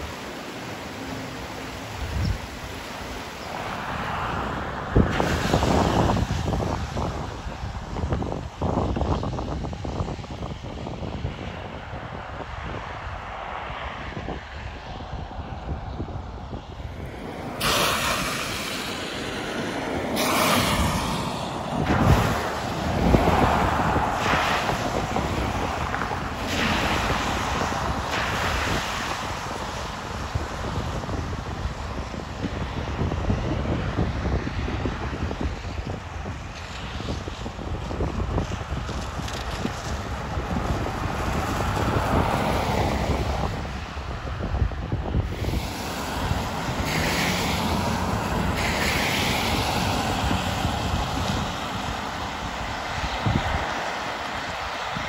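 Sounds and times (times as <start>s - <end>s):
car tyres splashing through water: 0.0s - 8.8s, 16.7s - 55.0s
wind rumble on microphone: 0.0s - 55.0s.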